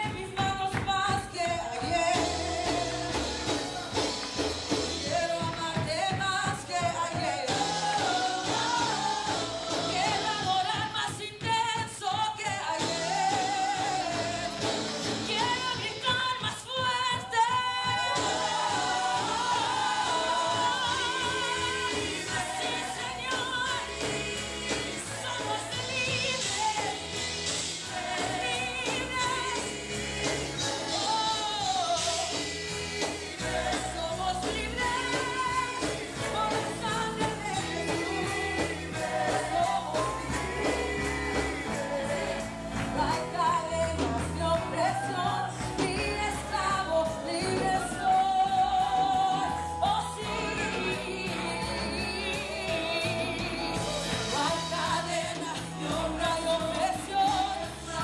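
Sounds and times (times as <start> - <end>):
keyboard: 0.0 - 11.1, 12.5 - 16.4, 17.1 - 58.0
backing singers: 0.0 - 11.6, 12.4 - 58.0
drum kit: 0.0 - 58.0
woman singing lead: 0.0 - 58.0.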